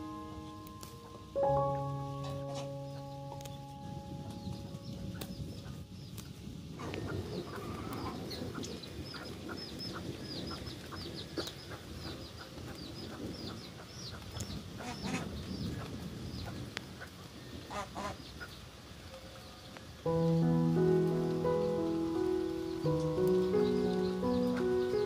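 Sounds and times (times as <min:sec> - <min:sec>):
leaves rustling: 0:00.0 - 0:09.5, 0:14.2 - 0:25.0
bird chirping: 0:00.0 - 0:15.7, 0:19.5 - 0:25.0.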